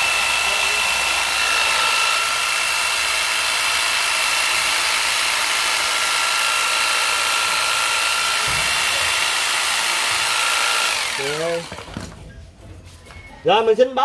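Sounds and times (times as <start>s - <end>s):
electric hedge trimmer buzzing: 0.0s - 12.2s.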